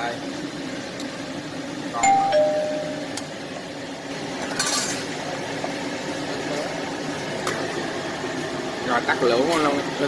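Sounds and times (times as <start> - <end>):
broth boiling and bubbling: 0.0 - 10.0
low steady hum: 0.2 - 8.8.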